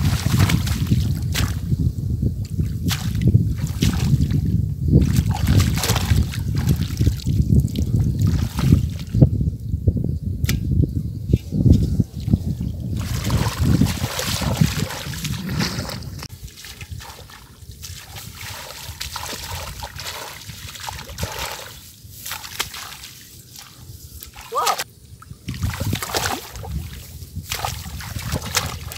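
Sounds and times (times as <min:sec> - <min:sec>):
water sloshing and splashing: 0:00.0 - 0:01.7, 0:02.4 - 0:09.1, 0:12.2 - 0:28.9.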